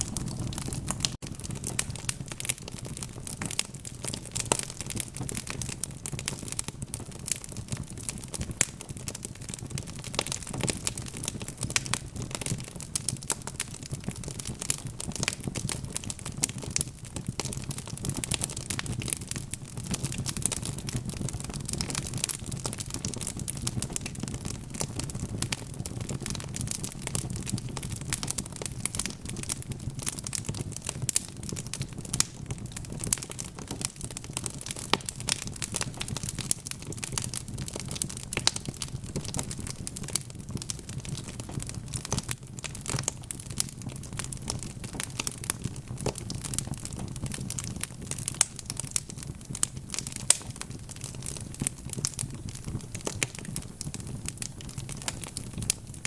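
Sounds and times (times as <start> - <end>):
low rumble of burning logs: 0.0 - 56.0
wood fire crackling: 0.0 - 56.0.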